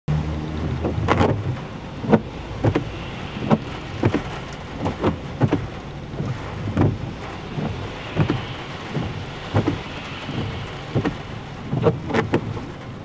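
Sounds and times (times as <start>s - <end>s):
heavy rain falling: 0.1s - 13.0s
low vehicle engine hum: 0.1s - 13.0s.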